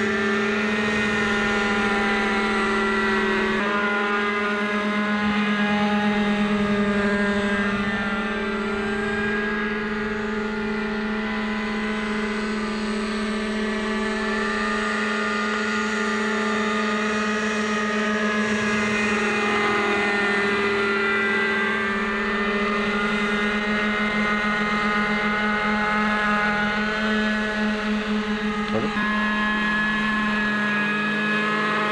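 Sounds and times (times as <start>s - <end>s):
model helicopter engine buzzing: 0.0s - 31.9s.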